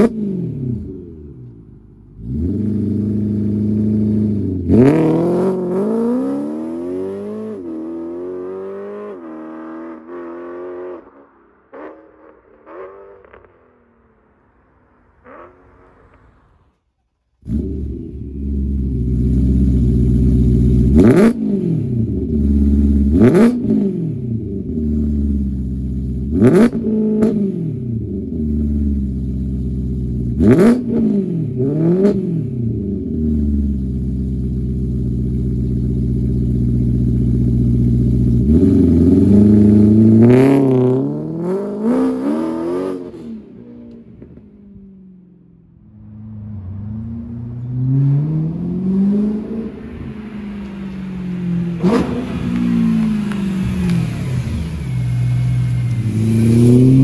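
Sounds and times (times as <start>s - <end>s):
car engine revving: 0.0s - 14.2s, 17.4s - 57.0s.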